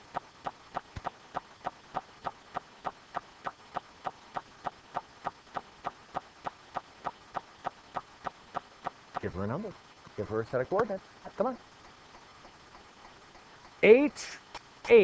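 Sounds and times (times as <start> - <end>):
rapid even ticking: 0.0 - 15.0.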